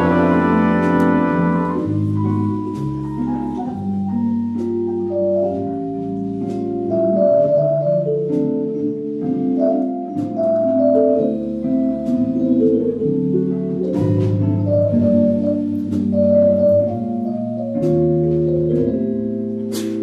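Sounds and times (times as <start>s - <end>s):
jazz band playing swing: 0.0s - 20.0s.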